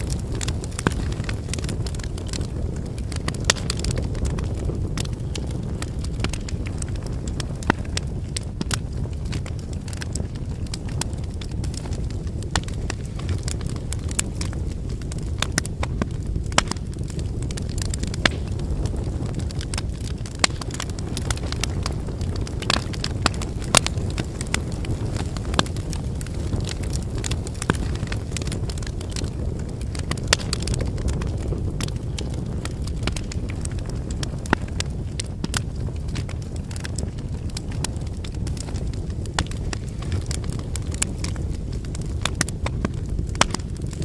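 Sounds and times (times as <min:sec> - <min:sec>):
burning logs crackling and popping: 0:00.0 - 0:44.0
campfire flames rumbling: 0:00.0 - 0:44.0.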